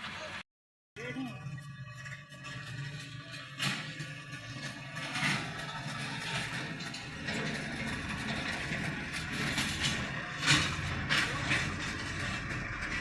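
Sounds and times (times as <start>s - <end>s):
vehicle engine running: 1.0s - 13.0s.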